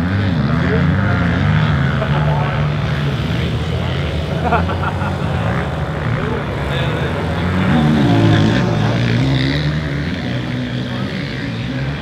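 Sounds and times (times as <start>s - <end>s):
motocross engines idling: 0.0s - 12.0s
motorbike engine revving: 0.0s - 12.0s.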